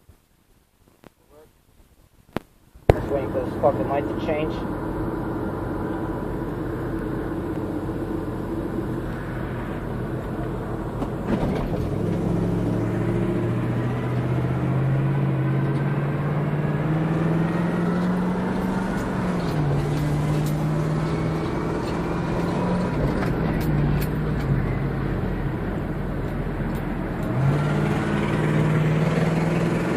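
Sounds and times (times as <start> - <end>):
truck engine accelerating: 2.9 - 29.9.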